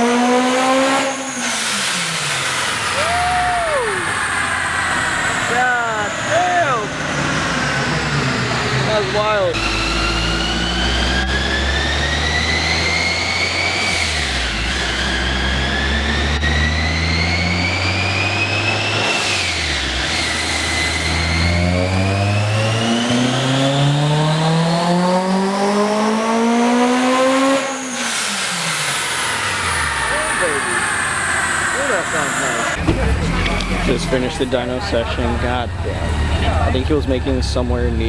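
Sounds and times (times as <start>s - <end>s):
car engine revving on dyno: 0.0s - 38.0s.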